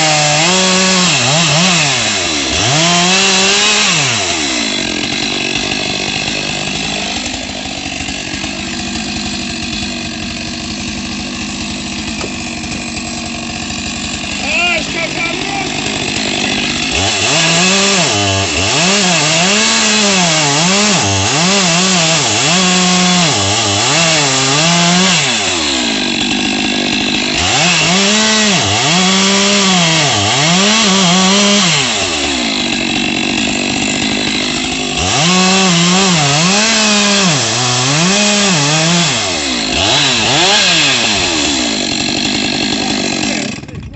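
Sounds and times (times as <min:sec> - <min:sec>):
chainsaw revving: 0:00.0 - 0:43.9.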